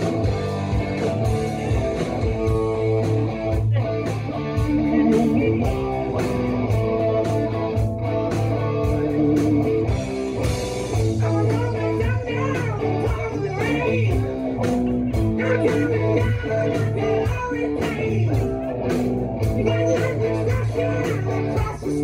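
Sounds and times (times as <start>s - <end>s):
blues rock music: 0.0s - 22.0s.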